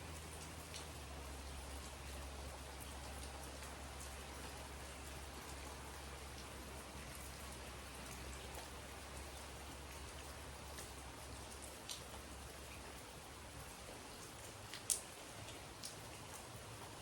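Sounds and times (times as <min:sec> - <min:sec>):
rain hiss: 0:00.0 - 0:17.0
raindrops ticking: 0:00.0 - 0:17.0.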